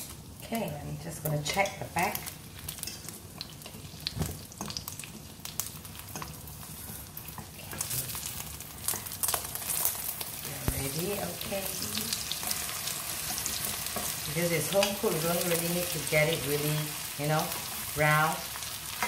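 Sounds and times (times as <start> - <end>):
omelette sizzling in oil: 0.0 - 19.0.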